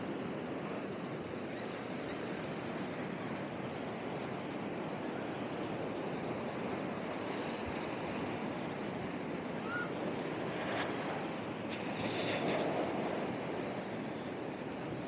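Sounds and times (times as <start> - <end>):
small waves breaking on sand: 0.0 - 15.0
wind on microphone: 0.0 - 15.0.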